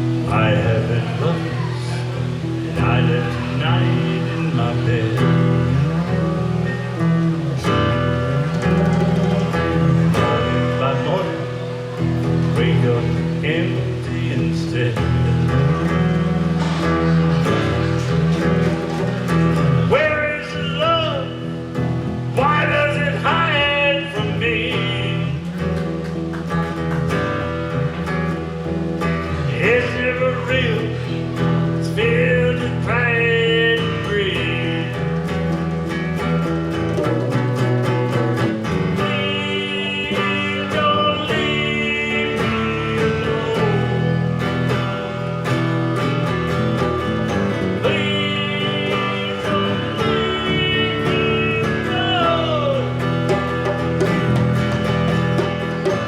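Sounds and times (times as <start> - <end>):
acoustic guitar strumming: 0.0 - 56.0
sliding lead melody line: 0.0 - 56.0.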